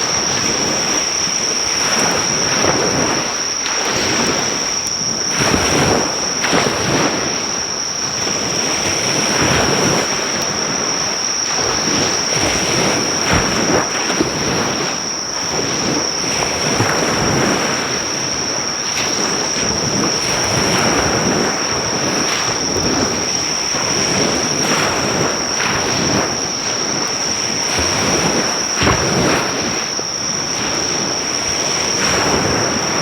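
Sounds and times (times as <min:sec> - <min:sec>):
high-pitched insect trill: 0:00.0 - 0:33.0
sea waves washing on shore: 0:00.0 - 0:33.0.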